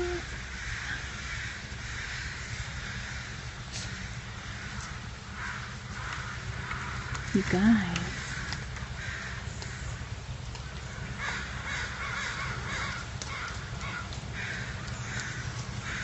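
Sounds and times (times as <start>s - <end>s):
bird calling: 0.0s - 16.0s.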